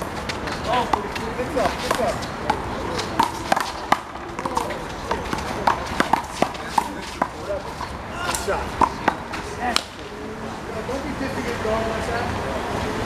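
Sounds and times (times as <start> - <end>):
voices in background: 0.0 - 13.0.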